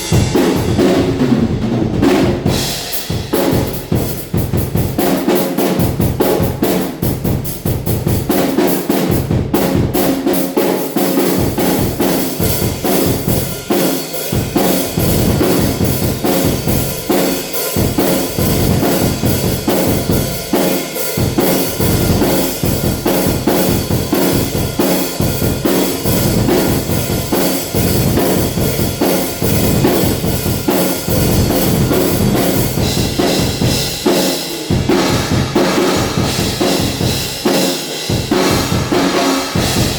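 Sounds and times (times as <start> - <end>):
cymbals: 0.0 - 1.4, 2.0 - 39.9
bass drum and snare groove: 0.0 - 39.9.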